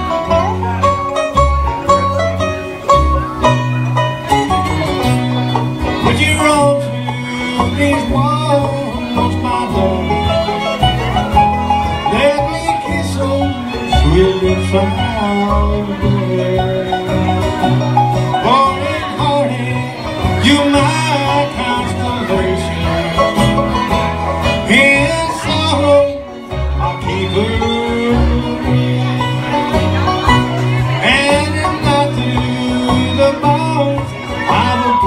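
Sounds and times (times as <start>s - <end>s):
bluegrass band playing: 0.0s - 35.0s.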